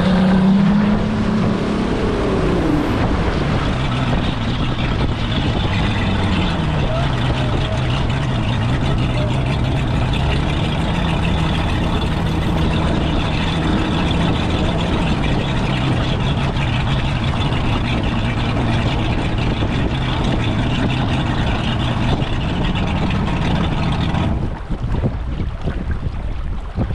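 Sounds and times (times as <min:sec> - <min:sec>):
motorboat engine droning: 0:00.0 - 0:26.9
rush of wind and water: 0:00.0 - 0:26.9.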